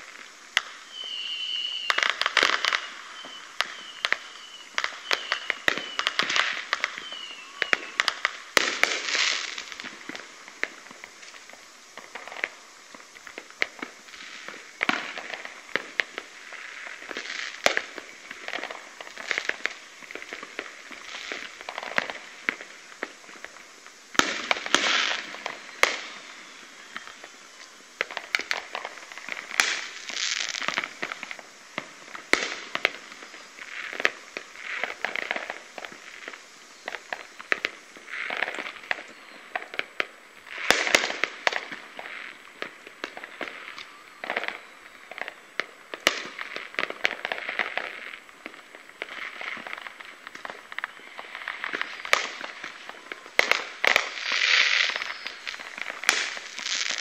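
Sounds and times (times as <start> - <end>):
distant fireworks bangs and crackling: 0.0 - 57.0.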